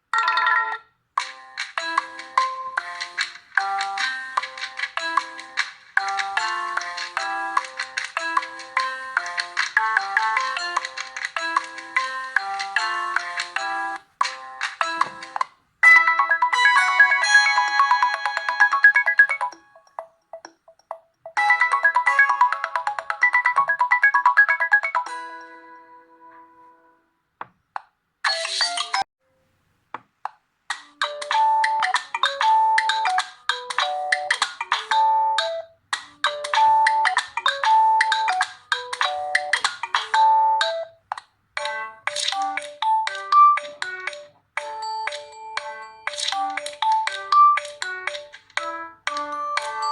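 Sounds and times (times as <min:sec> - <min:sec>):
phone ringtone melody: 0:00.2 - 0:26.6, 0:31.0 - 0:41.0, 0:41.6 - 0:49.9.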